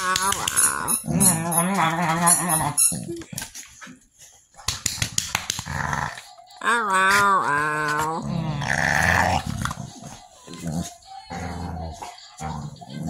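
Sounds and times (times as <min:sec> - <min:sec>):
dog whiny grumbles: 0:00.0 - 0:03.2, 0:05.6 - 0:13.0.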